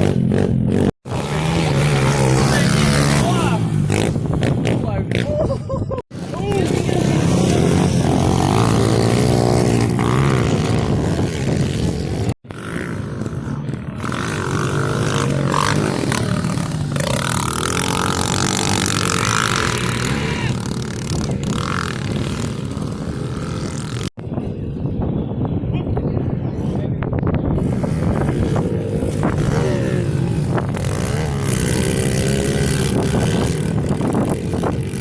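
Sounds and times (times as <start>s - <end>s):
pit bike engines revving: 0.0s - 26.4s, 27.2s - 35.0s.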